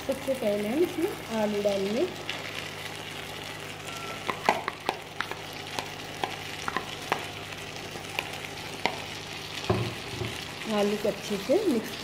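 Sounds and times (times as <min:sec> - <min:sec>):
meat and potatoes sizzling in oil: 0:00.0 - 0:12.0.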